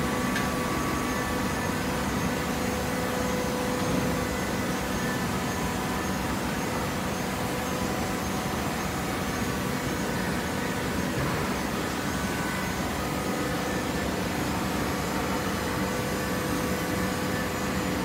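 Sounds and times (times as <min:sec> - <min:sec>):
baler mechanical hum: 0:00.0 - 0:18.0.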